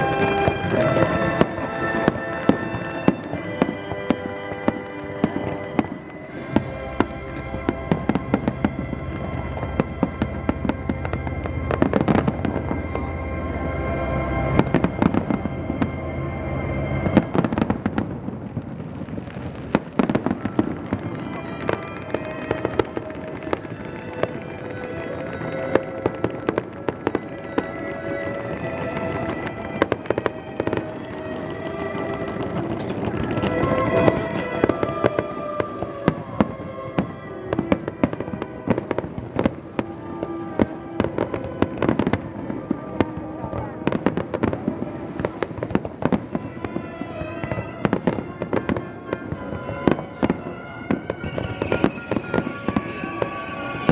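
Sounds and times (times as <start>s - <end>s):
fireworks bangs and crackles: 0.0s - 53.9s
music: 0.0s - 53.9s.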